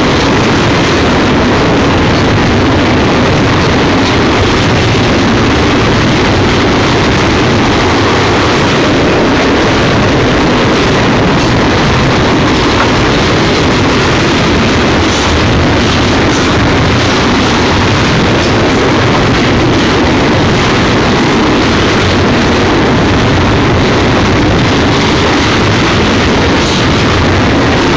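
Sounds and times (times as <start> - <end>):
train wheels rolling on rails: 0.0 - 27.9.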